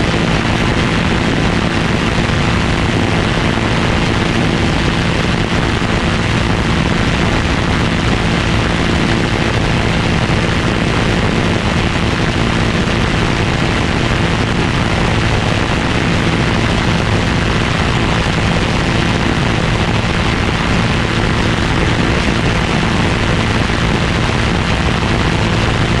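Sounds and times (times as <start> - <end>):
constant rushing noise: 0.0 - 26.0
loud engine drone: 0.0 - 26.0.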